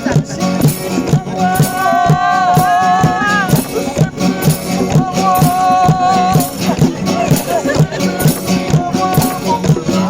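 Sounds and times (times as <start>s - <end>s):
music with steady beat: 0.0s - 10.0s
shaker rhythm: 0.0s - 10.0s.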